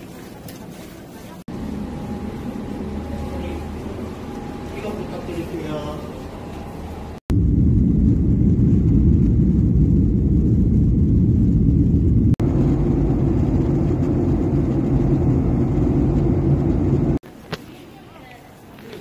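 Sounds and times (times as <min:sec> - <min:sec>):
jet engine and airflow rumble: 0:01.4 - 0:17.3.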